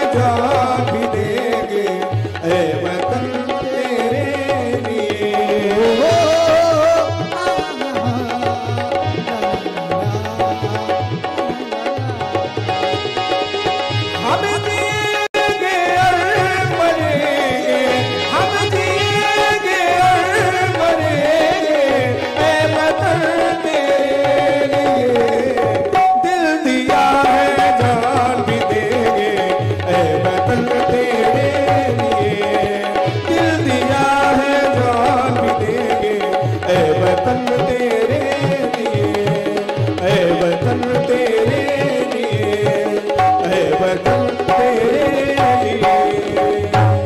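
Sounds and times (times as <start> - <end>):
hand drums rhythm: 0.0 - 47.0.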